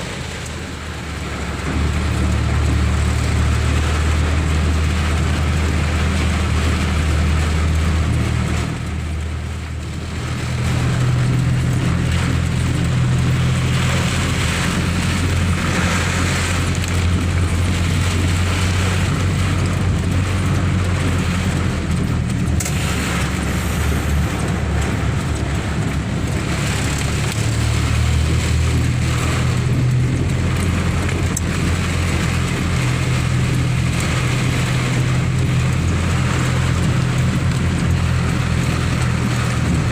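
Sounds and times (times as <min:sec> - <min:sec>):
road vehicle rumble: 0:00.0 - 0:39.9.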